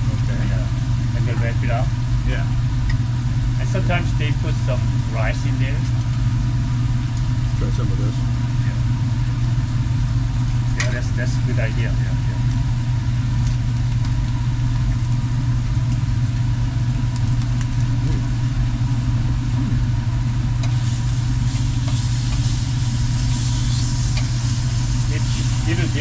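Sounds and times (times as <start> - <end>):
faint steady whine: 0.0 - 26.0
low mechanical drone: 0.0 - 26.0.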